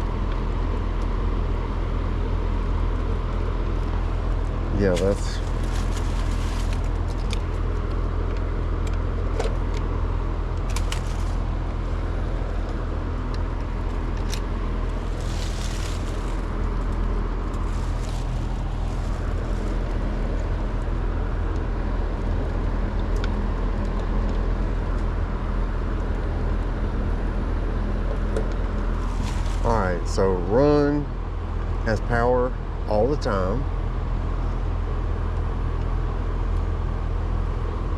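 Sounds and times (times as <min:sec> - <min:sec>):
air conditioner humming: 0:00.0 - 0:37.9.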